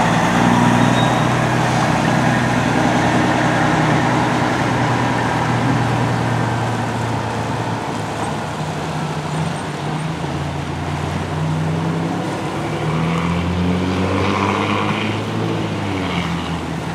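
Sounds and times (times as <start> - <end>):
heavy engine droning: 0.0 - 16.9.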